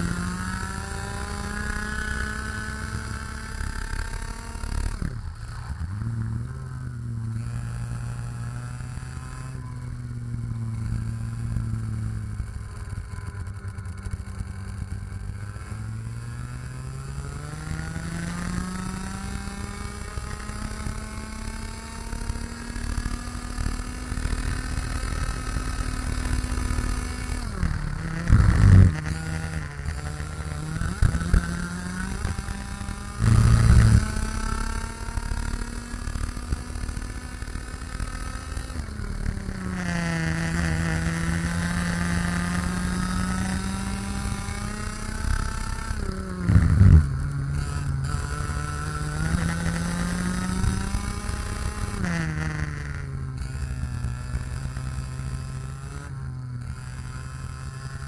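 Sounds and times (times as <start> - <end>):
kart engine at racing speed: 0.0 - 58.0.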